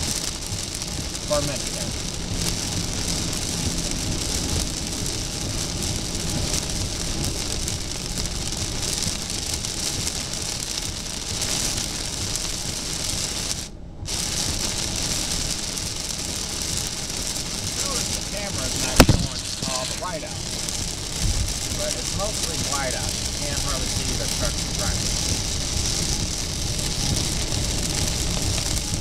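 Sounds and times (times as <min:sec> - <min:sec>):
heavy rain on car roof: 0:00.0 - 0:29.0
tyre noise on wet road: 0:00.0 - 0:29.0.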